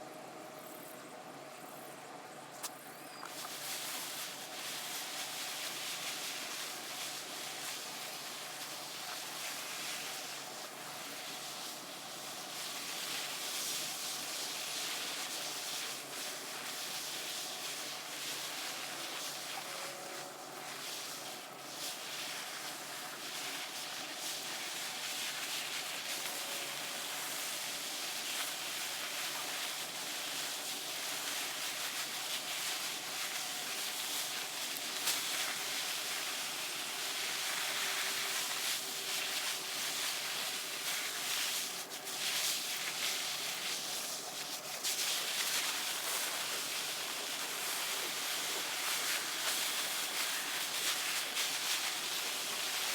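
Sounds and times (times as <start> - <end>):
water spraying from hose: 3.3 - 52.9.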